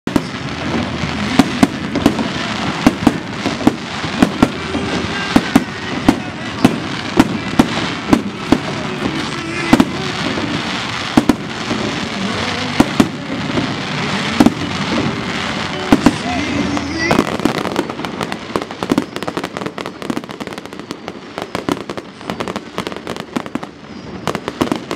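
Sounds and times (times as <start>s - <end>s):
firework shells bursting: 0.1s - 24.9s.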